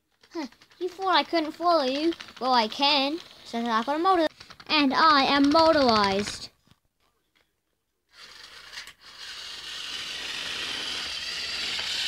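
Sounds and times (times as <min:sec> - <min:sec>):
toy train rattling on track: 0:00.2 - 0:06.5, 0:08.1 - 0:12.0.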